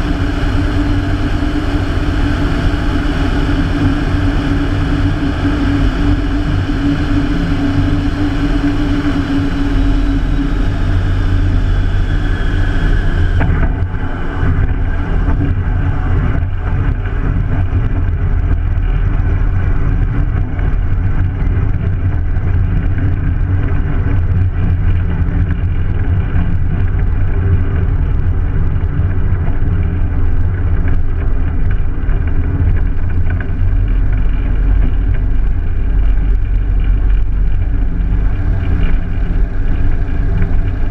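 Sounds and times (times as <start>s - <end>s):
radial aircraft engine droning: 0.0s - 40.9s.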